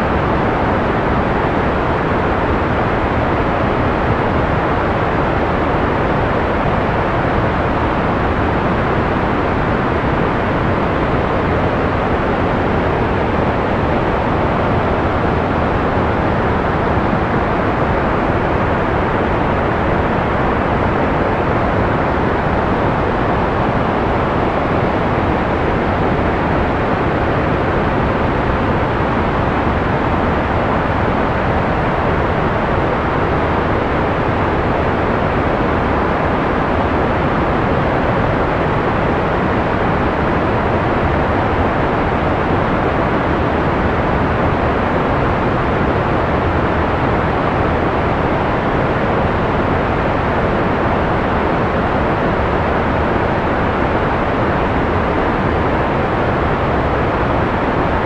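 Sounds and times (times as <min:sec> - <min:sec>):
soft steady white noise: 0:00.0 - 0:58.0.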